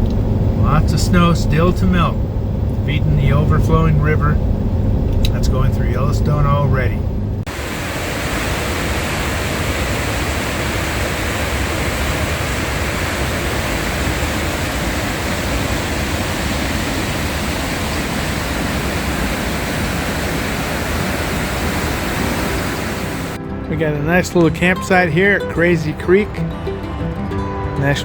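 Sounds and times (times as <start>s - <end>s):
vehicle road and wind noise: 0.0s - 23.4s.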